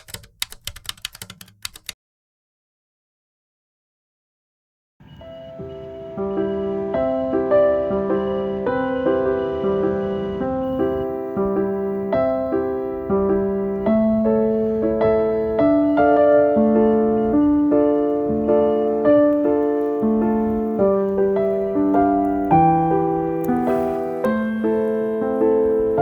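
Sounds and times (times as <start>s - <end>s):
soft solo piano melody: 5.1s - 26.0s.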